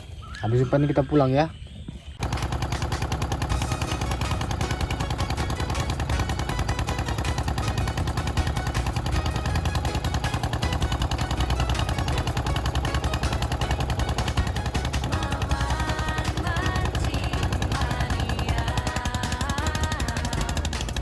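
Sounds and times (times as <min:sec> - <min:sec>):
boat engine knocking: 0:02.2 - 0:21.0.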